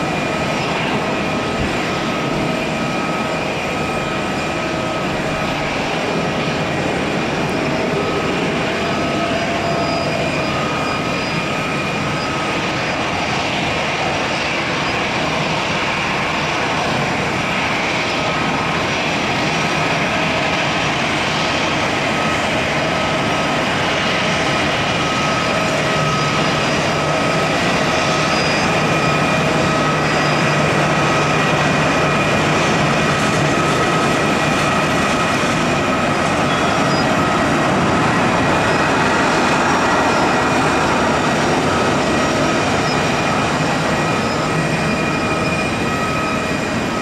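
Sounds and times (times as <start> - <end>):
high jet whine: 0.0 - 47.0
jet engine roar: 0.0 - 47.0.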